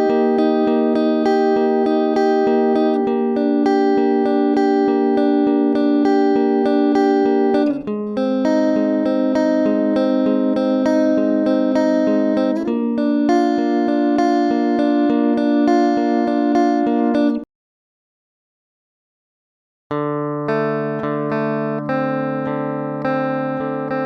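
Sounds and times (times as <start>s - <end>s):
electric guitar sustained chords: 0.0s - 17.4s, 20.4s - 24.0s.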